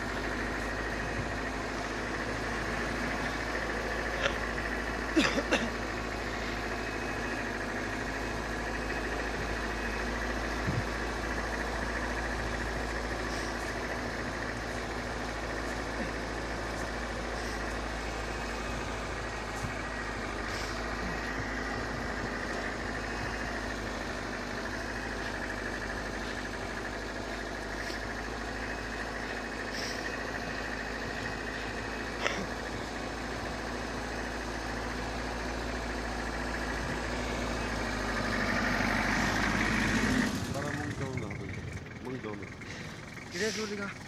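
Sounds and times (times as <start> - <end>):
truck engine at low revs: 0.0 - 44.0.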